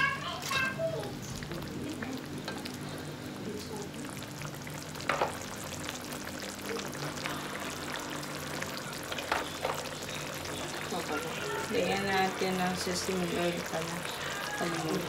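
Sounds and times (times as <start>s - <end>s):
shrimp sizzling in a pan: 0.4s - 15.0s.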